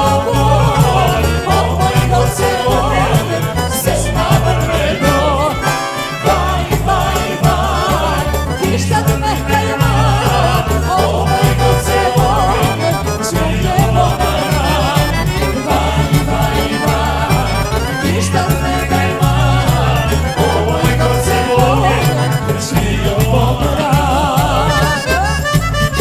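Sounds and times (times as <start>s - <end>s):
folk-pop music with bass beat: 0.0s - 26.0s.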